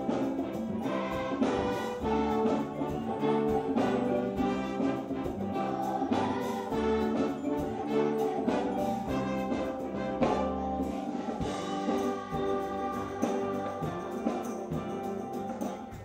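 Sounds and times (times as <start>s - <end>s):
children's choir singing: 0.0s - 15.7s
cymbals: 0.0s - 16.0s
live band playing: 0.0s - 16.0s.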